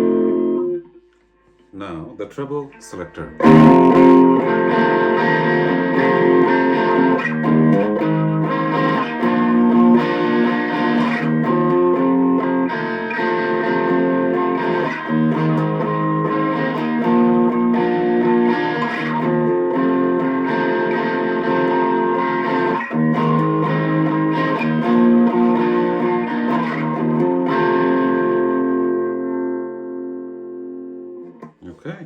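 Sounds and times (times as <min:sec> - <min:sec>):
electric guitar strummed chords: 0:00.0 - 0:01.1, 0:02.7 - 0:31.6.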